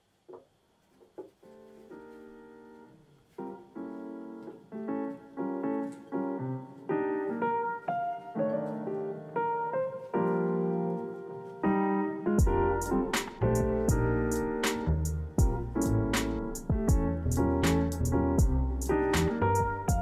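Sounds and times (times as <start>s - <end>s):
gentle piano melody: 1.2s - 20.0s.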